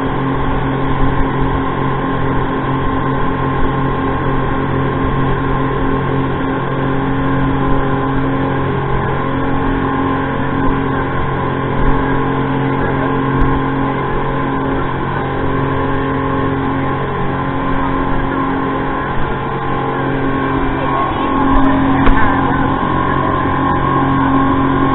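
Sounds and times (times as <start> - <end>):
speedboat engine drone: 0.0 - 24.9
water rushing along hull: 0.0 - 24.9.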